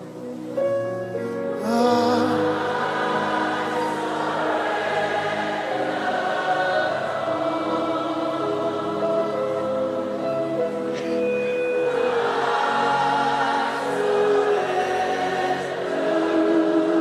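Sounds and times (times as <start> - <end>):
choir singing gospel song: 1.6 - 17.0.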